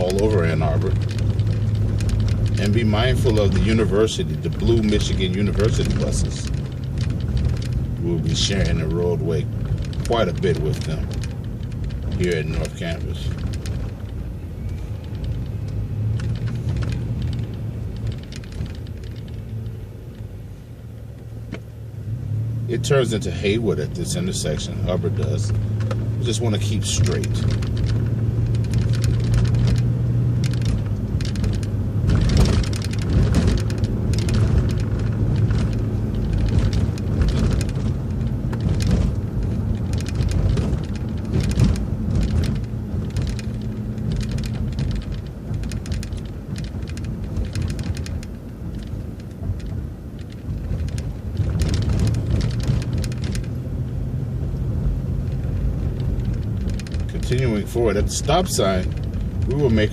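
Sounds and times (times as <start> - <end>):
bus body rattling and knocking: 0.0 - 20.4, 22.9 - 59.9
bus engine hum: 0.0 - 59.9.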